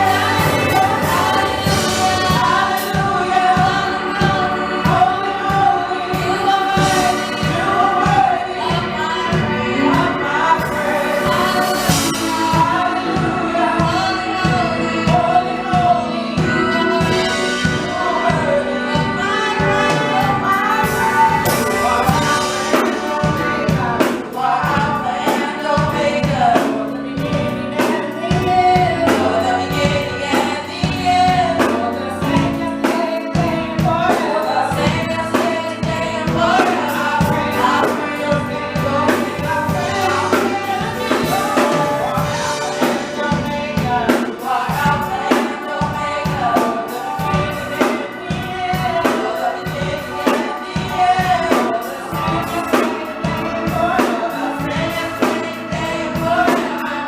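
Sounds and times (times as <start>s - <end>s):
gospel group singing with band: 0.0s - 57.0s.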